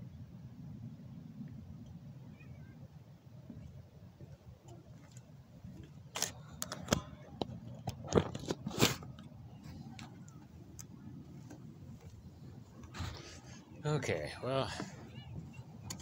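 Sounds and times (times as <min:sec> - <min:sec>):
faint low outdoor background: 0:00.0 - 0:16.0.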